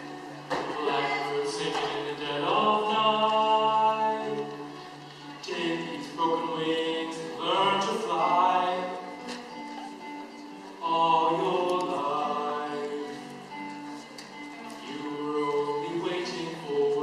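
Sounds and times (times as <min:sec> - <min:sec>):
person singing slow song: 0:00.0 - 0:17.0.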